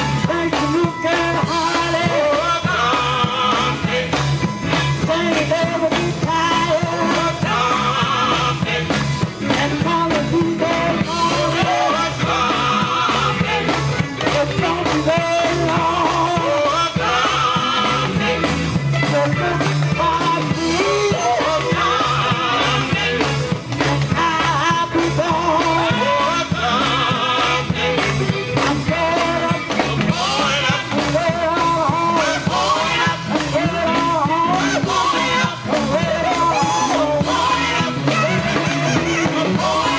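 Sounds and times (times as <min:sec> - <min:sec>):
gospel group singing: 0:00.0 - 0:39.9
live instrumental backing: 0:00.0 - 0:39.9.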